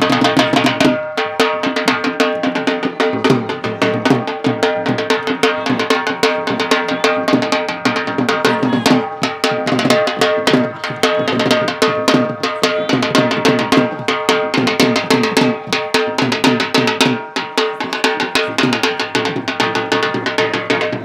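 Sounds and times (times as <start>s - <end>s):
drum played in fast rhythm: 0.0s - 21.0s.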